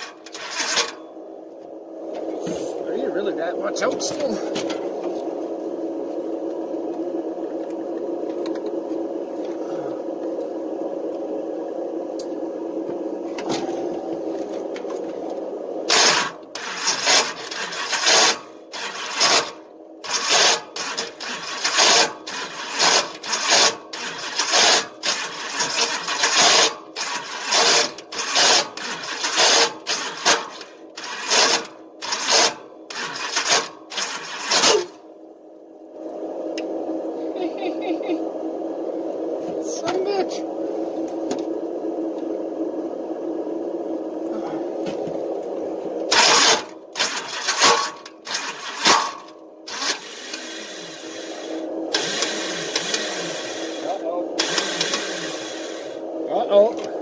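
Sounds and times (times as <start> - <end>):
starter harsh grinding bursts: 0.0 - 35.4, 44.2 - 57.0
starter motor whining: 0.0 - 42.4, 43.9 - 57.0.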